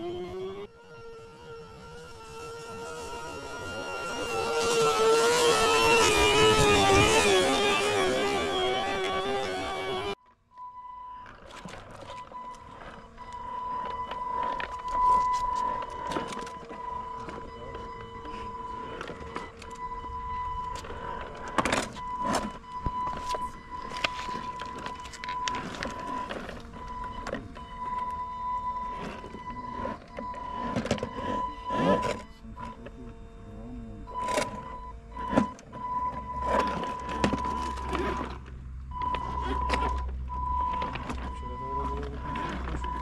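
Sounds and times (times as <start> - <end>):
electric motor whine: 0.0 - 10.2, 11.6 - 43.0.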